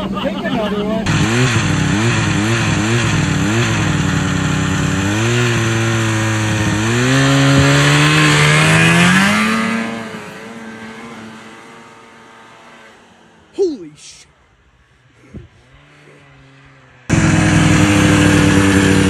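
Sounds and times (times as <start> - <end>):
engine revving and accelerating: 1.0 - 13.4, 15.1 - 19.0.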